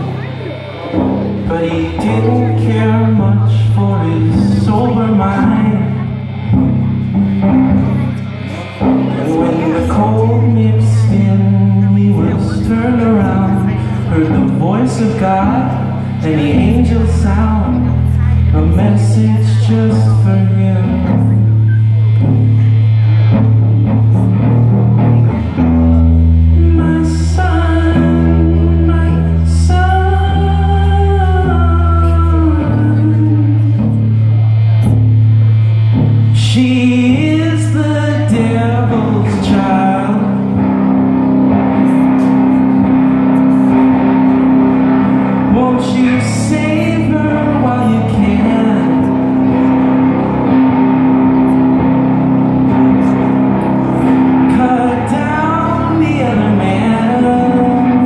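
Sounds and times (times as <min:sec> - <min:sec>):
electric guitar: 0:00.0 - 0:58.0
person singing: 0:00.0 - 0:58.0.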